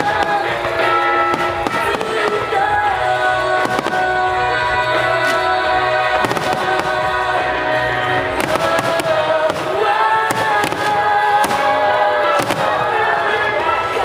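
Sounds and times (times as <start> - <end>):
fireworks bangs: 0.0 - 14.0
music with long held notes: 0.0 - 14.0.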